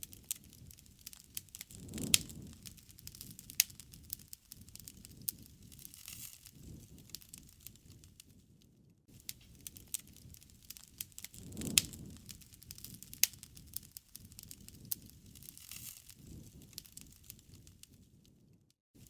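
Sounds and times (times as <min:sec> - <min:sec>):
wood fire crackling and popping: 0:00.0 - 0:18.7
low rumble of flames: 0:00.0 - 0:19.0.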